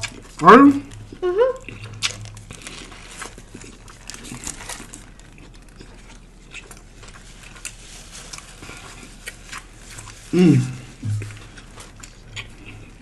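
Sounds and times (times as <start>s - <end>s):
chewing with small crunches: 0.0s - 13.0s.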